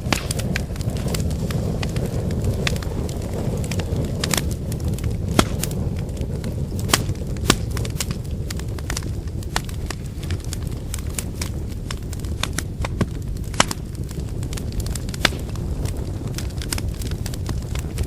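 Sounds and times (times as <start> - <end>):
burning wood crackling and popping: 0.0 - 18.0
low rumble of flames: 0.0 - 18.0.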